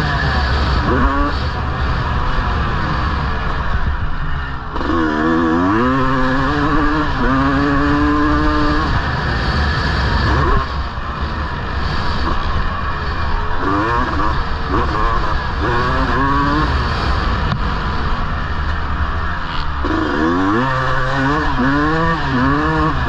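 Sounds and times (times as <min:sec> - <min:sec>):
motorcycle engine revving hard: 0:00.0 - 0:18.5, 0:19.1 - 0:23.0.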